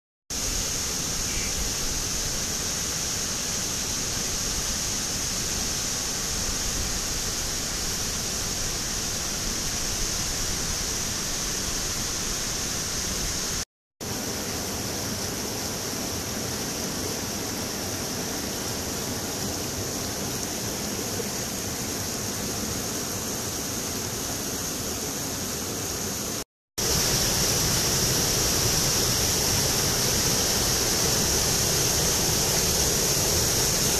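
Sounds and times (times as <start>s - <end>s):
stream running over boulders: 0.3s - 33.9s
waterfall cascading down rock: 0.3s - 33.9s.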